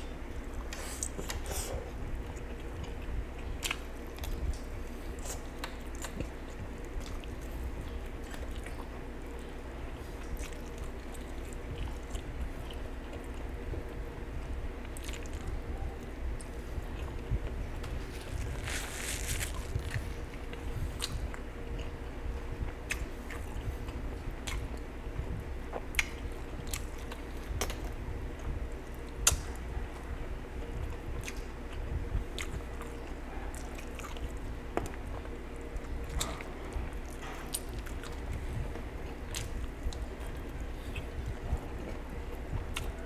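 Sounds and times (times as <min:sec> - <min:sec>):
faint steady hum: 0:00.0 - 0:43.0
chewing and lip-smacking: 0:00.6 - 0:13.6, 0:14.8 - 0:15.7, 0:16.3 - 0:43.0.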